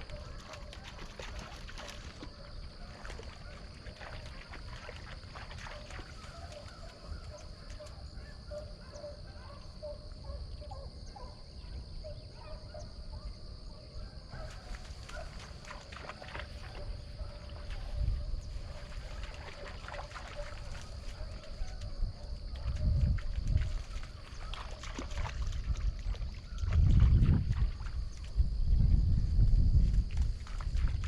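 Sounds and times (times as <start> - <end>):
distant hounds baying and yelping: 0.0 - 26.7.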